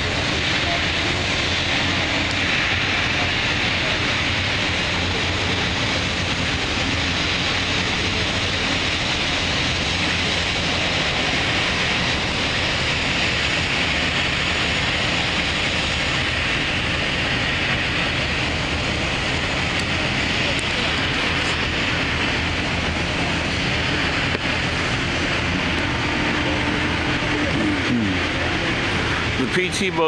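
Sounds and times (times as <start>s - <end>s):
boat diesel engines running: 0.0s - 30.0s.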